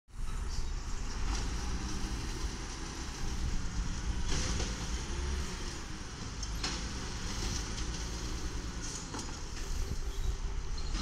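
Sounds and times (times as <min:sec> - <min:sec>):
garbage truck running: 0:00.2 - 0:11.0.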